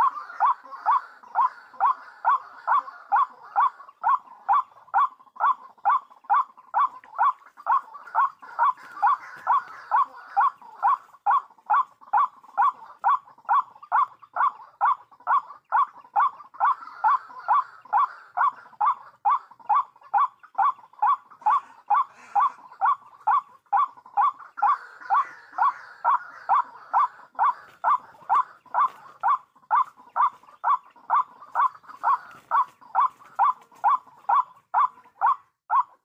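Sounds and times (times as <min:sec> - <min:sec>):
waterhen calling: 0:00.0 - 0:36.0.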